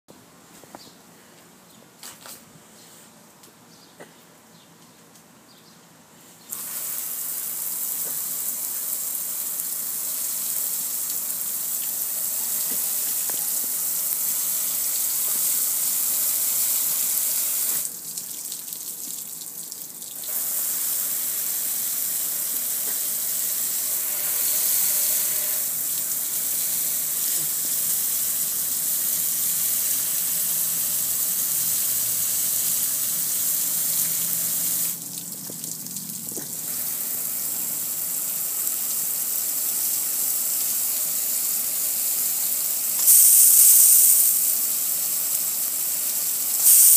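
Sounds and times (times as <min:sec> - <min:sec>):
hose water splattering on metal: 0:06.5 - 0:23.8, 0:24.4 - 0:46.9.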